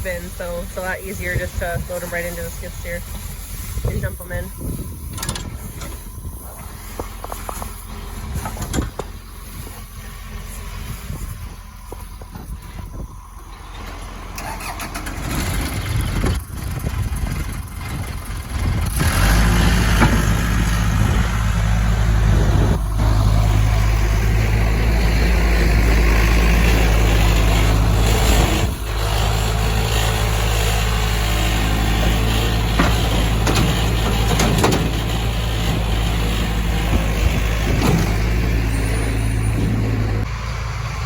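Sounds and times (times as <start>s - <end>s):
farm machine engine droning: 0.0s - 41.0s.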